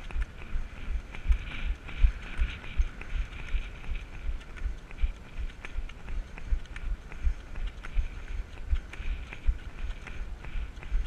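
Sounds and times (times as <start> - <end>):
rhythmic running thuds on crutches: 0.0 - 11.0.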